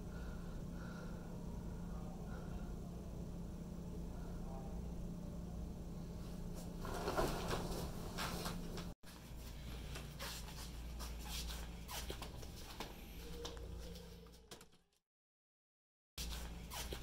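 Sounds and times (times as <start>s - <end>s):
low room hum: 0.0s - 14.7s.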